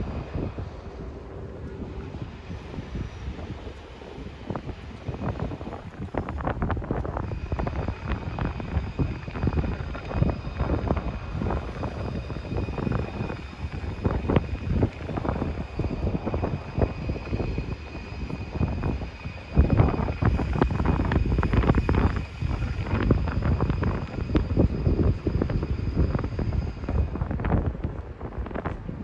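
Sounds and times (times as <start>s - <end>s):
faint high-pitched whine: 0.0s - 28.1s.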